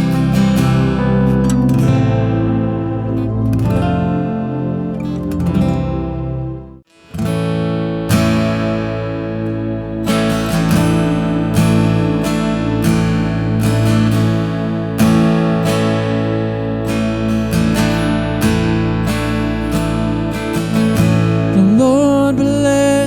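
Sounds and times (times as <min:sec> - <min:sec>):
strummed acoustic guitar chords: 0:00.0 - 0:23.0.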